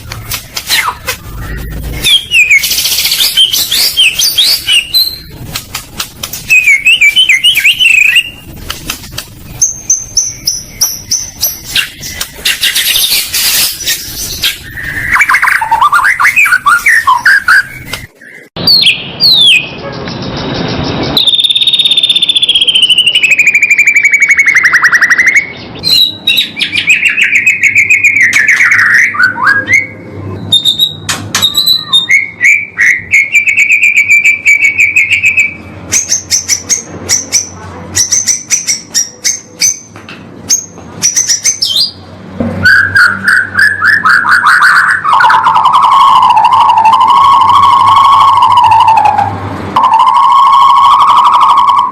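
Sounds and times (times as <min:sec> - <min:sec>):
recorded songbird song: 0:00.0 - 0:51.9.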